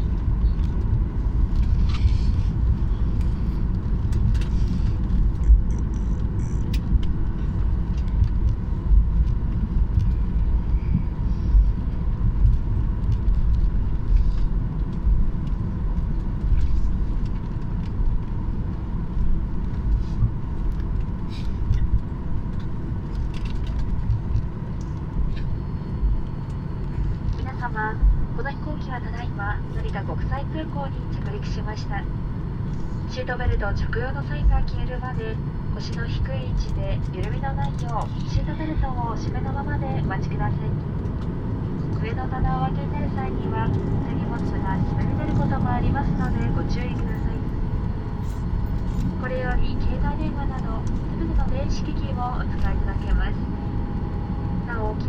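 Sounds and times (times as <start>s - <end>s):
plane rolling low rumble: 0.0s - 55.0s.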